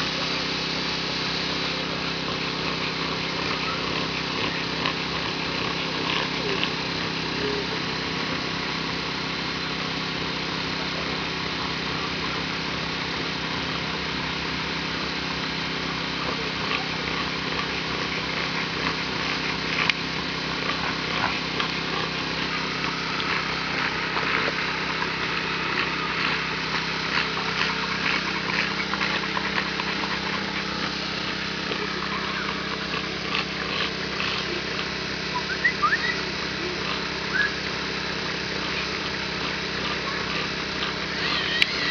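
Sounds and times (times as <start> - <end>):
motor hum: 0.0 - 41.9.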